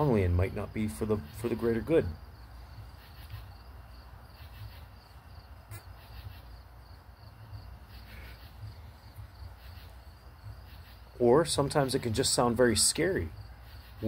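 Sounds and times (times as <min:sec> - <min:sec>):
crickets chirping: 0:00.0 - 0:14.0
low background hum: 0:00.0 - 0:14.0.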